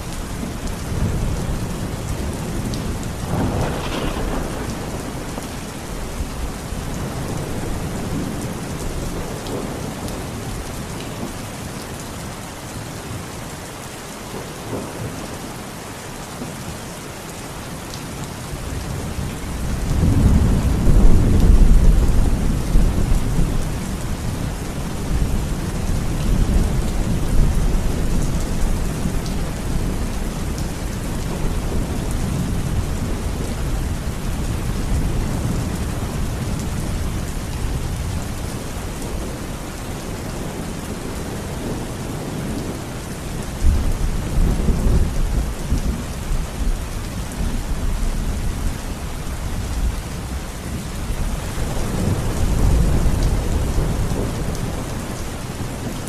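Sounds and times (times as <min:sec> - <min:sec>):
low thunder rumbles: 0:00.0 - 0:10.6, 0:18.8 - 0:55.8
steady rain: 0:00.0 - 0:56.0.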